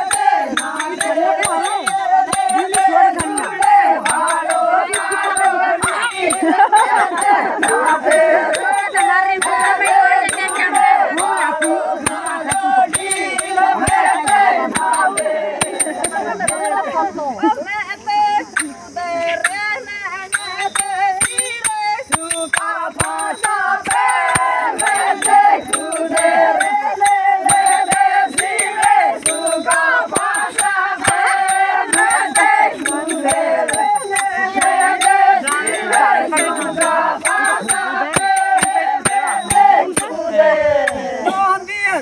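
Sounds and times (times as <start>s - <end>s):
hand clapping: 0.0s - 16.8s, 18.5s - 18.8s, 20.3s - 41.0s
women singing folk song: 0.0s - 41.6s.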